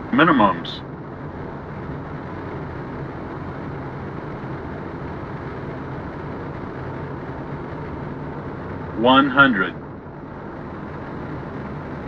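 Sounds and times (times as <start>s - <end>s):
airplane cockpit rush and hum: 0.0s - 12.0s.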